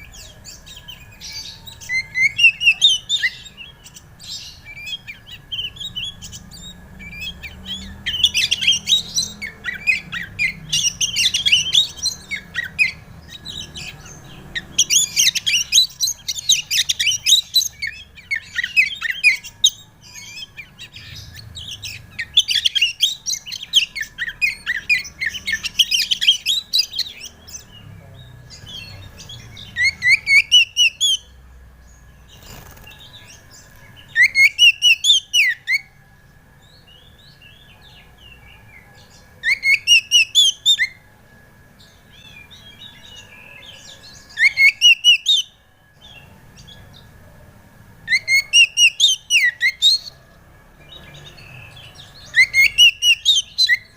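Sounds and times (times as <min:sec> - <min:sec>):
songbird singing rapid varied song: 0:00.0 - 0:41.0, 0:41.8 - 0:47.2, 0:48.0 - 0:53.9.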